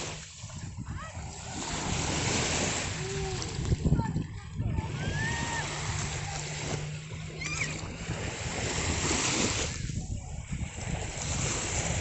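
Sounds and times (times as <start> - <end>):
sea water surging: 0.0 - 12.0
wind rumbling on microphone: 0.0 - 12.0.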